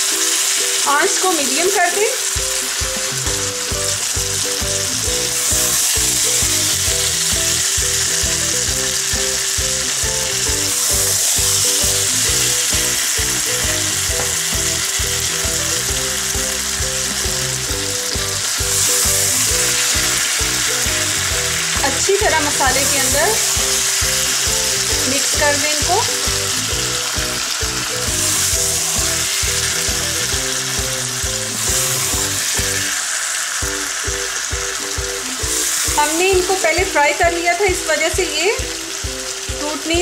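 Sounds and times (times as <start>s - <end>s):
meat sizzling in a pan: 0.0s - 40.0s.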